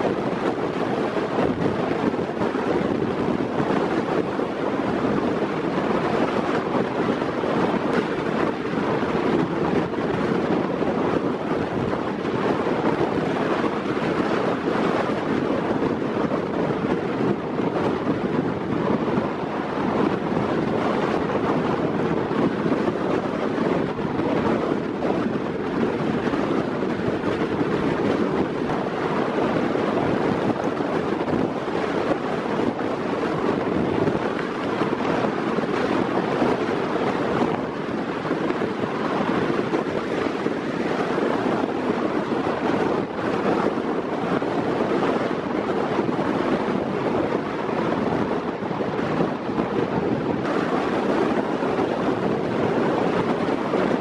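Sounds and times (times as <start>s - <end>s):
rough water: 0.0s - 54.0s
strong wind on microphone: 0.0s - 54.0s.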